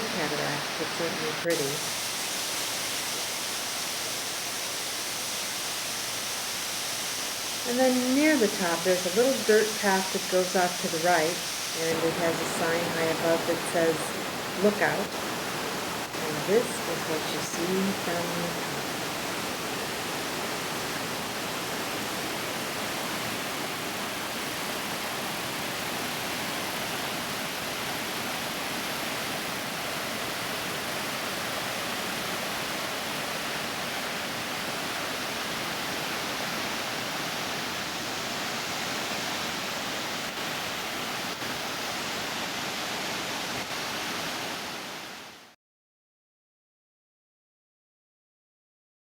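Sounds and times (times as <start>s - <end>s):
waterfall rushing: 0.0s - 45.5s.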